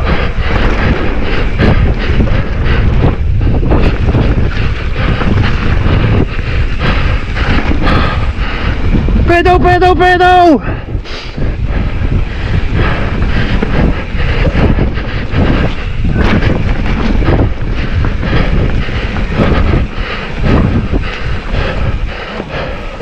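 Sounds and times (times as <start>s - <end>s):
bike knocking and rattling: 0.0s - 23.0s
bike tyres rumbling on dirt: 0.0s - 23.0s
wind on microphone: 0.0s - 23.0s.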